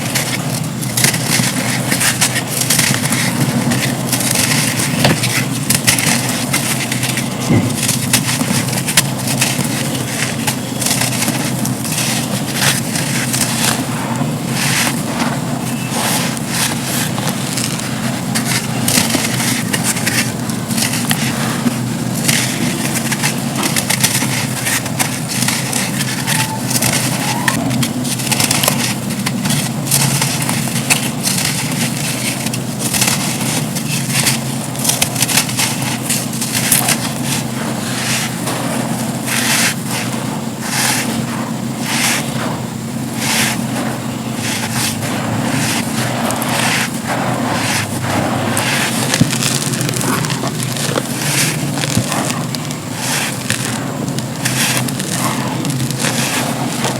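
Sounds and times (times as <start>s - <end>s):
sand crumbling crunches: 0.0s - 56.9s.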